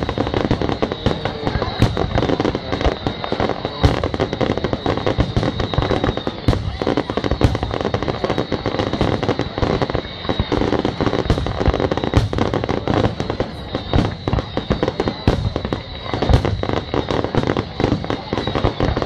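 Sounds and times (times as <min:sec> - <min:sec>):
fireworks bangs and crackling pops: 0:00.0 - 0:19.0.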